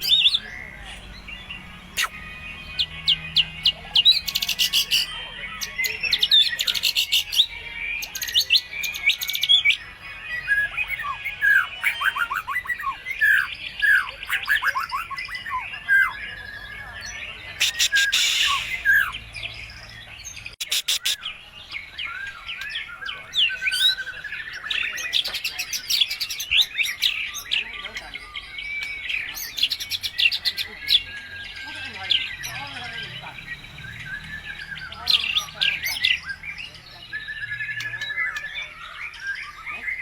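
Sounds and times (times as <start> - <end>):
songbird whistling and chirping: 0.0 - 40.0.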